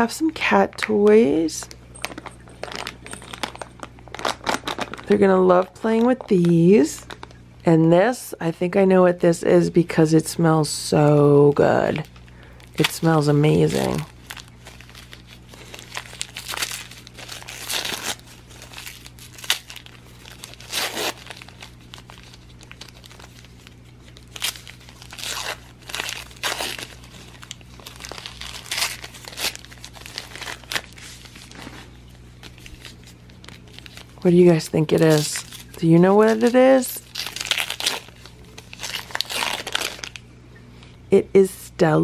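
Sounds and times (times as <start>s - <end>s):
low steady hum: 0.0s - 42.0s
wrapping paper tearing and crinkling: 2.0s - 7.4s, 11.8s - 40.2s.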